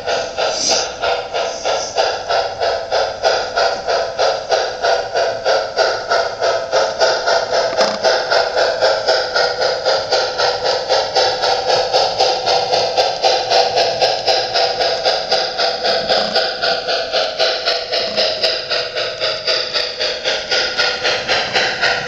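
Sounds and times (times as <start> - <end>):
model train running on track: 0.0 - 22.0.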